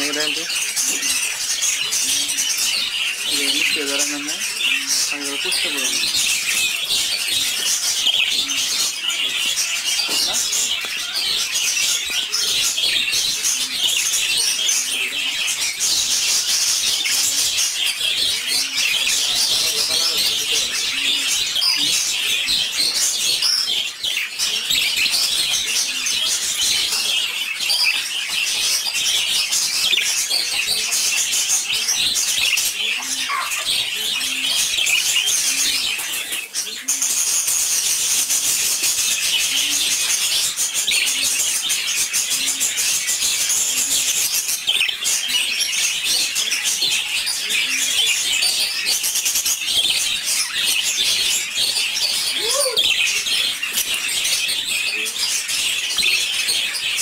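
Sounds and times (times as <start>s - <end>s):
budgerigars chattering and warbling: 0.0s - 57.0s.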